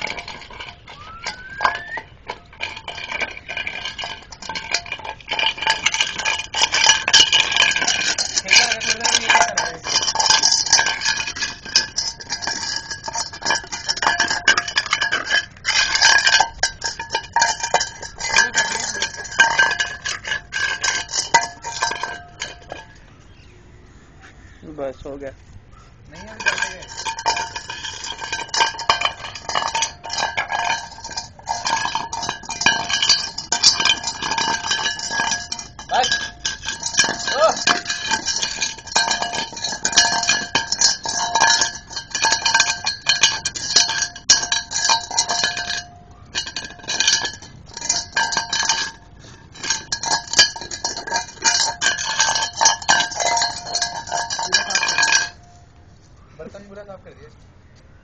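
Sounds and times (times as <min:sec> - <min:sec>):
metal bowl clanking on concrete: 0:00.0 - 0:23.5, 0:26.1 - 0:55.6.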